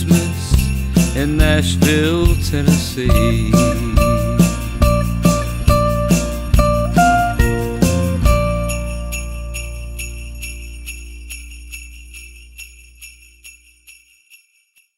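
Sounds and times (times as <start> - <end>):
sleigh bells shaking: 0.0 - 14.9.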